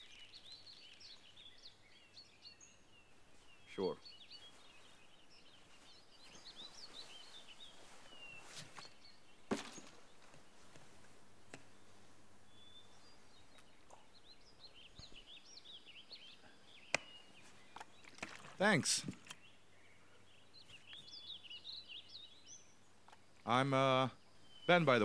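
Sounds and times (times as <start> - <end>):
forest ambience: 0.0 - 25.0
songbirds chirping: 0.0 - 25.0.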